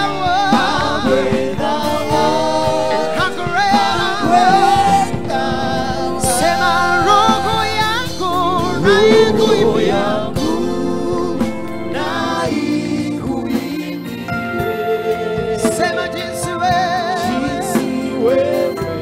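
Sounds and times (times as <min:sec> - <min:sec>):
backing singers: 0:00.0 - 0:19.0
band with keyboard and drums: 0:00.0 - 0:19.0
man singing lead vocal: 0:00.0 - 0:19.0.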